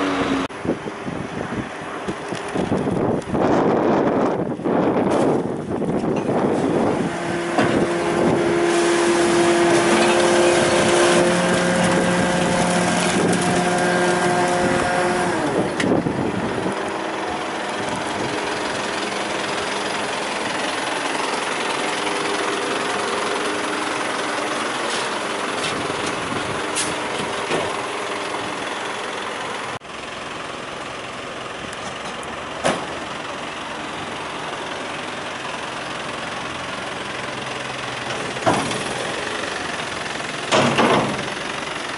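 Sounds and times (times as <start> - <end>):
rubbish truck engine running: 0.0 - 41.9.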